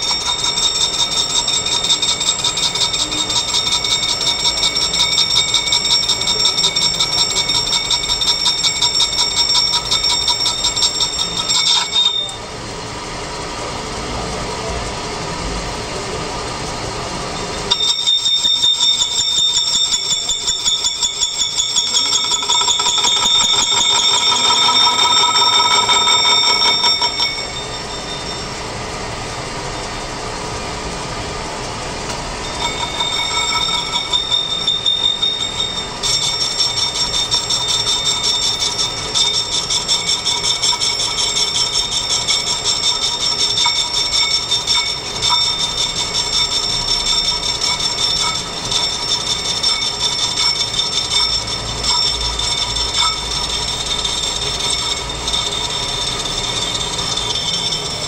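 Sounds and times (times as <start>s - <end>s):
lathe tool squealing on steel: 0.0s - 13.9s, 16.4s - 30.1s, 32.0s - 58.0s.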